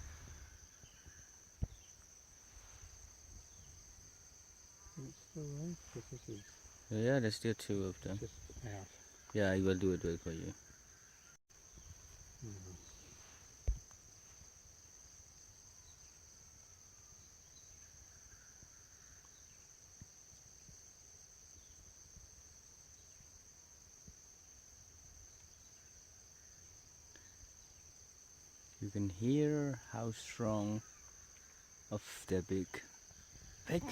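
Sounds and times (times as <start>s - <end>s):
insect chorus drone: 0.0s - 33.9s.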